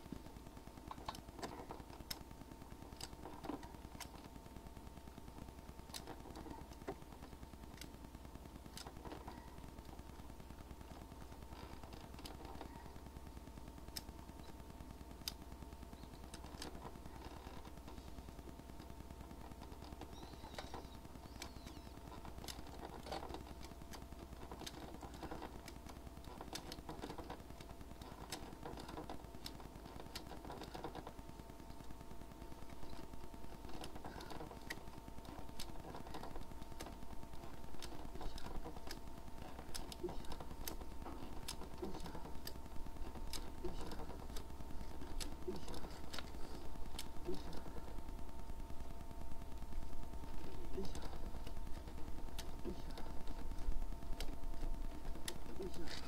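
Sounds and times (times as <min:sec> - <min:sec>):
faint two-tone hum: 0:00.0 - 0:56.0
small clicks and clatter: 0:00.0 - 0:56.0.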